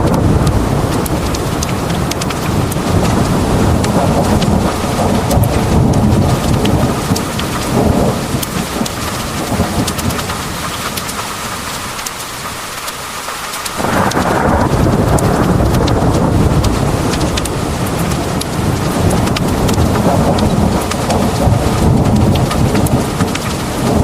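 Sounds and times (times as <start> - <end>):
deep rolling thunder rumble: 0.0 - 12.5, 13.7 - 24.0
heavy rain pouring: 0.0 - 24.0
sharp raindrop ticks: 0.0 - 24.0.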